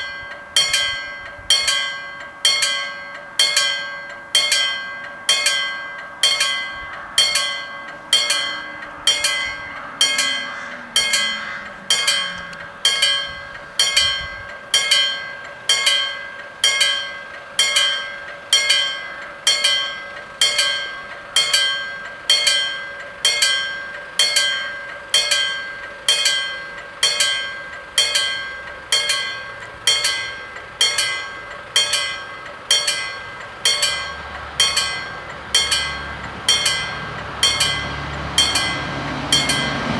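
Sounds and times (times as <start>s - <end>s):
level crossing bell ringing: 0.0s - 39.9s.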